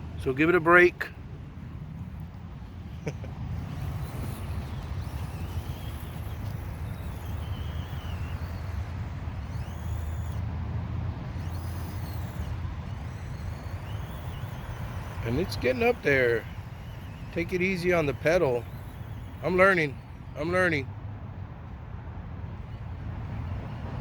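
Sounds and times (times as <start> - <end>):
small electric motor whining: 0.0 - 24.0.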